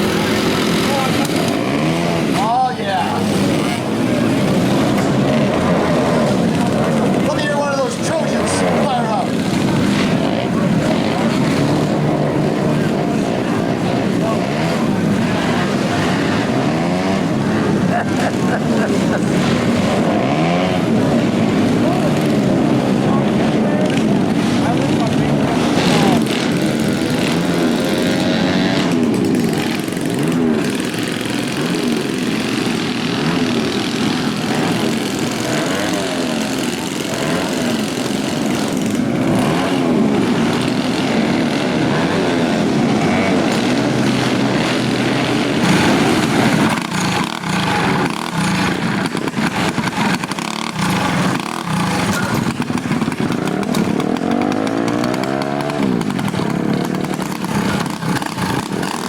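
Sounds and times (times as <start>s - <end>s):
small minibike engines revving: 0.0s - 59.0s.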